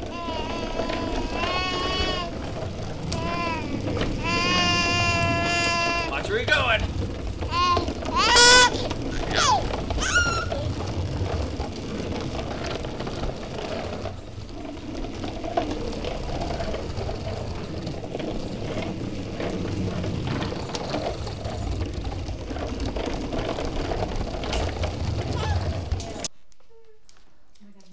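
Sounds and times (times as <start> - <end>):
rattling and light ticks: 0.0 - 26.3.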